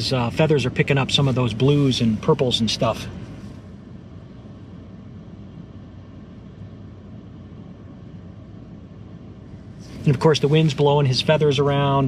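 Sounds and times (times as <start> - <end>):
low rumble inside car cabin: 0.0 - 12.0.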